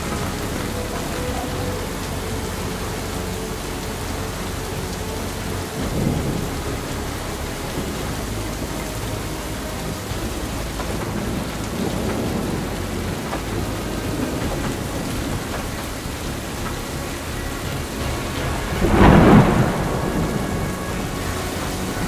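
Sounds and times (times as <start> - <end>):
heavy rain pouring: 0.0 - 22.0
thunder rumbling: 0.0 - 22.0.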